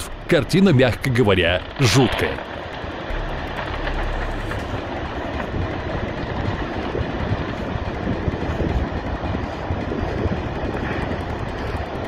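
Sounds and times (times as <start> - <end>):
landslide rumbling: 0.0 - 12.0.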